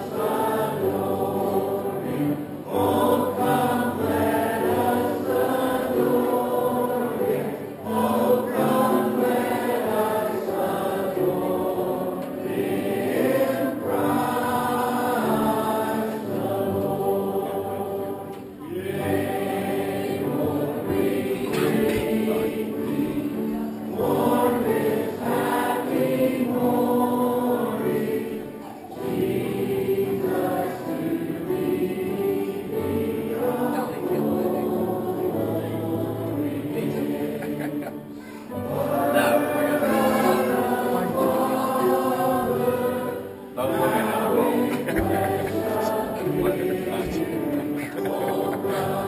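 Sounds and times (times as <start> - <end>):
congregation singing a hymn: 0.0 - 49.0.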